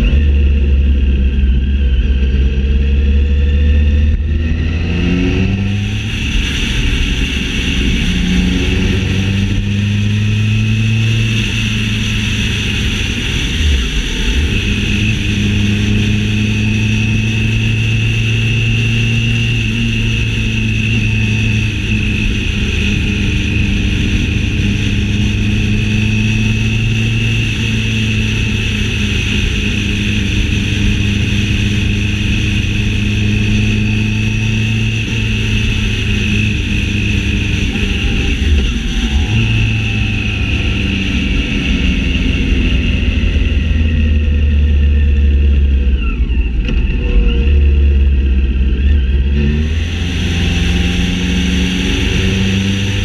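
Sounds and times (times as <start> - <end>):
constant high whine: 0.0 - 53.0
motorcycle engine running: 0.0 - 53.0.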